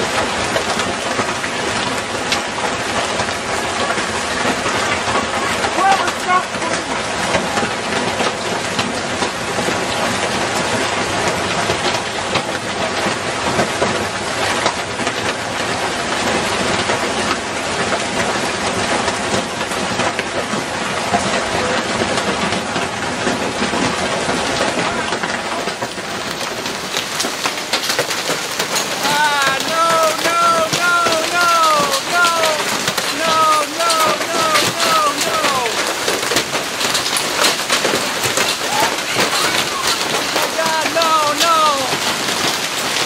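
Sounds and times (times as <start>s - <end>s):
heavy hail pelting down: 0.0s - 43.0s.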